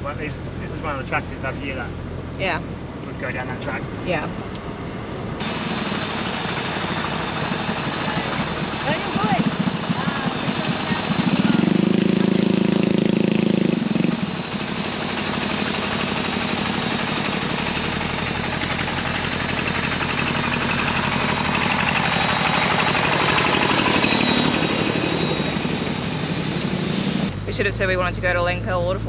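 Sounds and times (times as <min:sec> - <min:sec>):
car engine driving slowly: 0:00.0 - 0:29.0
tractor engine passing: 0:00.0 - 0:29.0.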